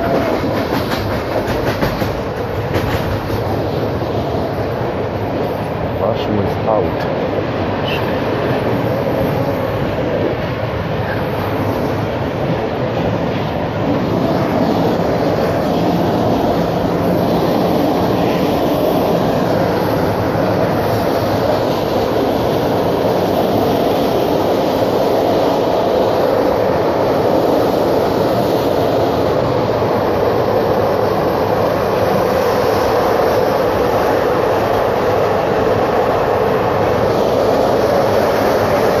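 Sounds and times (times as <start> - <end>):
train running inside carriage: 0.0 - 39.0.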